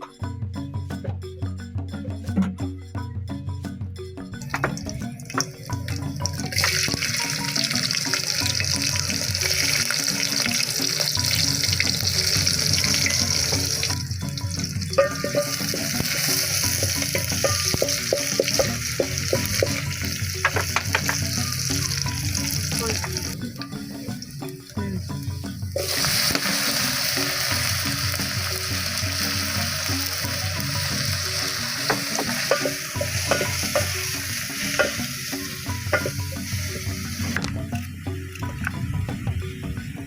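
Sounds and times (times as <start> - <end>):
background music: 0.0 - 40.0
steady hissing noise: 5.7 - 40.0.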